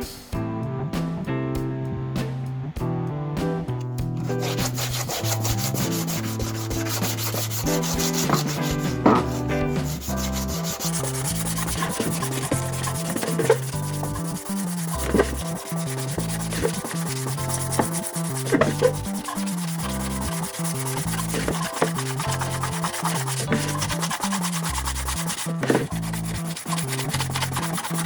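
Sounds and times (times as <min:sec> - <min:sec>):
background music: 0:00.0 - 0:28.0
hand sanding strokes: 0:04.2 - 0:28.0.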